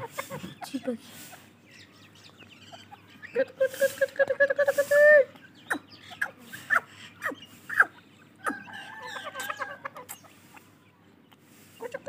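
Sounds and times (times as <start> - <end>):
rapid trilling bird call: 0.0 - 10.8.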